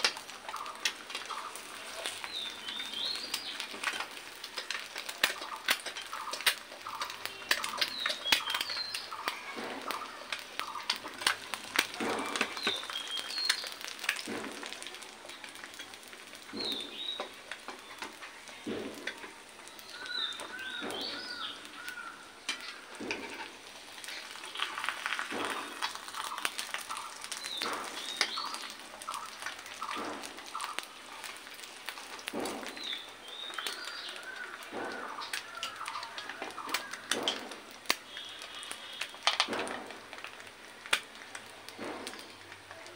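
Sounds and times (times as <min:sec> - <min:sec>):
egg frying crackling and popping: 0:00.0 - 0:42.9
birds chirping: 0:00.3 - 0:39.8.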